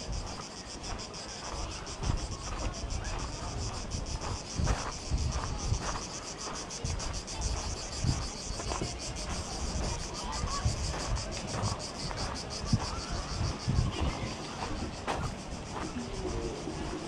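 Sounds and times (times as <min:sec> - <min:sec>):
cicadas buzzing: 0:00.0 - 0:17.0
footsteps on gravel: 0:00.0 - 0:17.0
wind rumble on microphone: 0:00.0 - 0:17.0.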